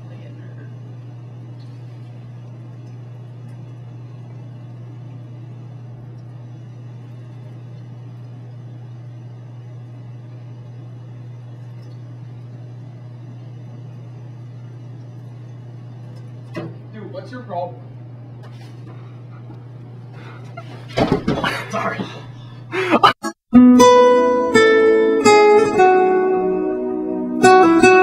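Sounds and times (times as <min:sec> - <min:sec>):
low electrical hum: 0:00.0 - 0:23.2, 0:23.8 - 0:28.0.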